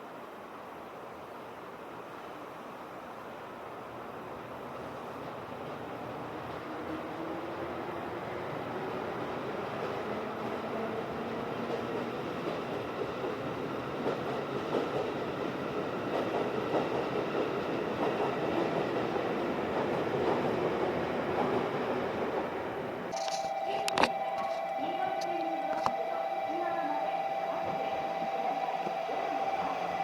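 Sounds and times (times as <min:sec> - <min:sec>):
train wheels rumbling: 0:04.5 - 0:23.3, 0:24.2 - 0:30.0.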